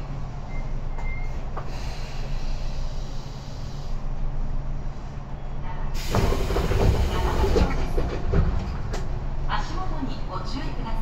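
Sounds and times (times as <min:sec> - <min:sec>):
train rumbling in tunnel: 0:00.0 - 0:11.0.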